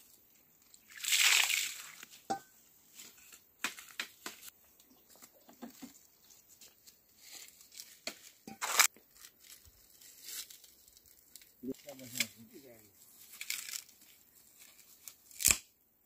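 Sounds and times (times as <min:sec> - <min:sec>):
dry leaves and twigs crunching: 0:00.0 - 0:15.6.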